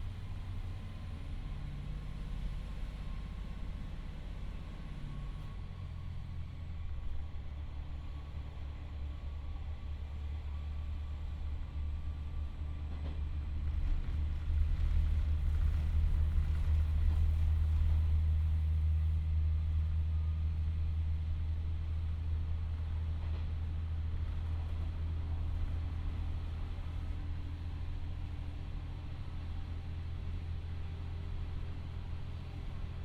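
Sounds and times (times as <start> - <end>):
diesel railcar engine drone: 0.0 - 33.0.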